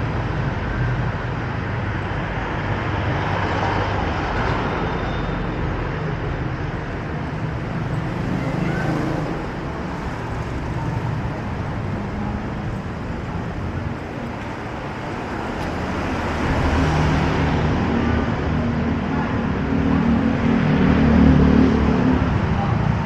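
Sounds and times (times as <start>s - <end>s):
street traffic: 0.0s - 23.0s.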